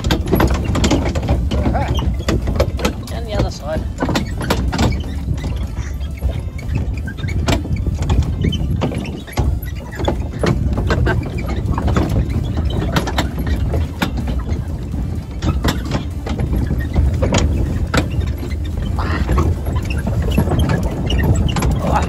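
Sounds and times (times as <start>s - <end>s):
farm vehicle rumbling: 0.0s - 22.0s
knocks and rattles: 0.0s - 22.0s.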